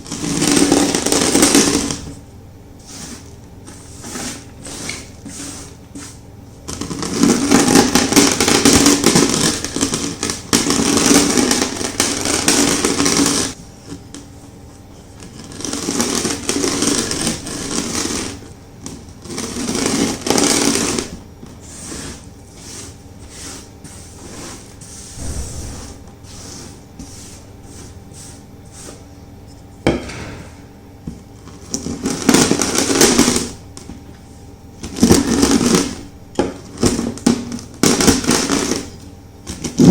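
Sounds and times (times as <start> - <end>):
rolling pin crushing chalk: 0.0 - 2.2, 2.8 - 14.3, 15.2 - 29.1, 31.5 - 34.0, 34.8 - 39.9.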